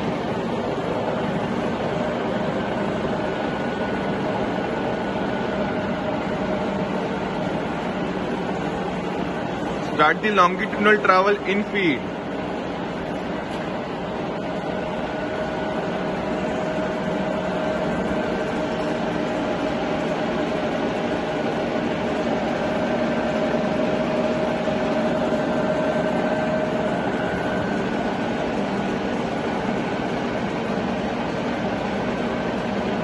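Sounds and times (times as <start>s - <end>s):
milling machine feed drive hum: 0.0s - 33.0s.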